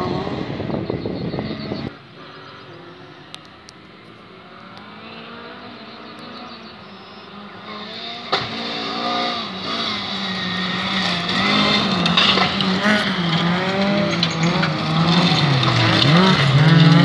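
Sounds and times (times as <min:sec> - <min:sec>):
race engines revving: 0:00.0 - 0:17.0.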